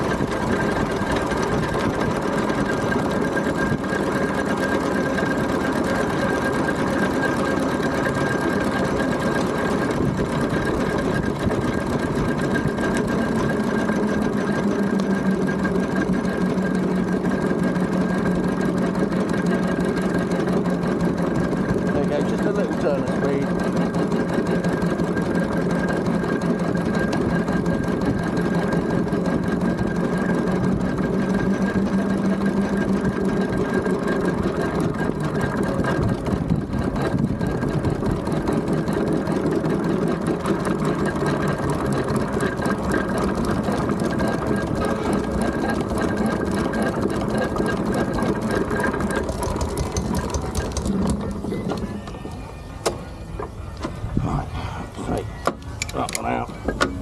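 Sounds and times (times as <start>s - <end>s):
steam traction engine clattering: 0.0s - 57.0s.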